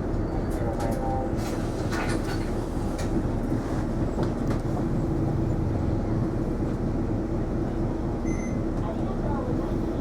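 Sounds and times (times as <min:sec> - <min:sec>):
bus engine and road drone: 0:00.0 - 0:10.0.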